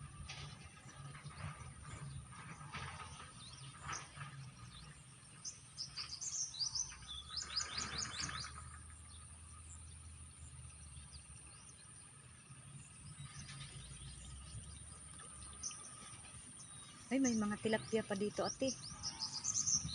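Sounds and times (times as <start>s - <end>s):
small bird chirping: 0.8s - 19.9s.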